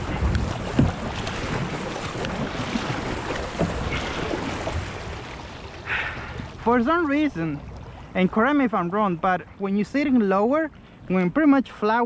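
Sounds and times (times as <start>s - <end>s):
paddle strokes splashing: 0.0s - 10.1s
water rushing along hull: 0.0s - 12.0s.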